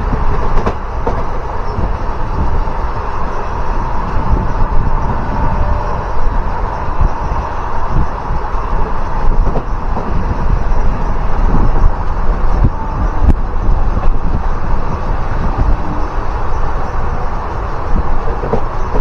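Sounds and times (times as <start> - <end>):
train wheels rumbling on rails: 0.0 - 19.0
wind noise on microphone: 0.0 - 19.0.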